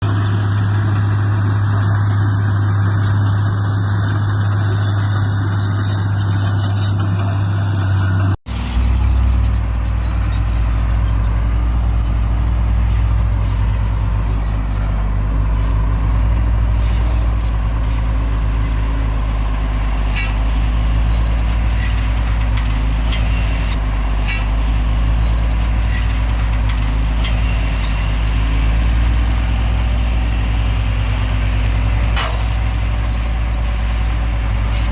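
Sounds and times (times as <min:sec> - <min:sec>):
heavy diesel machinery droning: 0:00.0 - 0:34.9.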